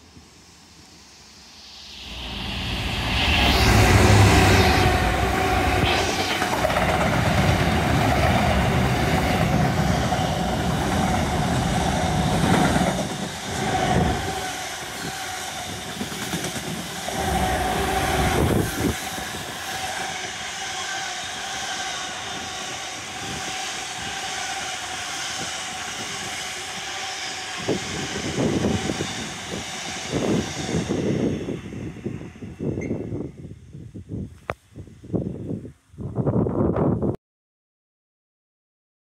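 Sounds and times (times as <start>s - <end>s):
steady high whine: 0.0s - 32.8s
freight train wheels rumbling: 2.1s - 33.4s.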